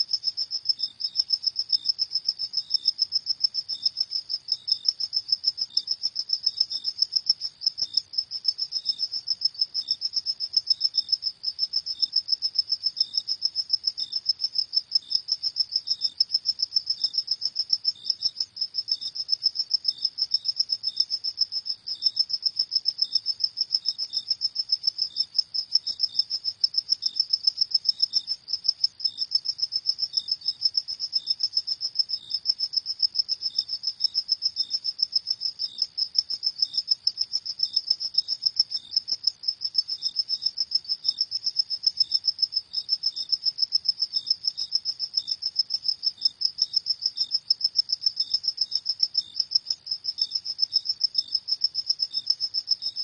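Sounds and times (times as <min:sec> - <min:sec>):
crickets chirping: 0:00.0 - 0:53.0
fainter lower insect call: 0:00.0 - 0:53.0.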